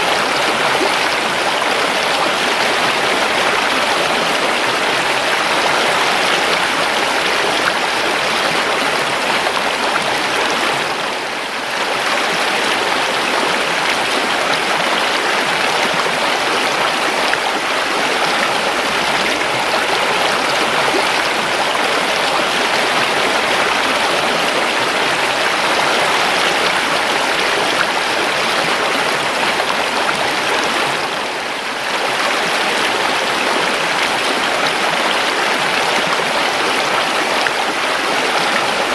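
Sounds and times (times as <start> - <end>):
river flowing steadily: 0.0 - 38.9.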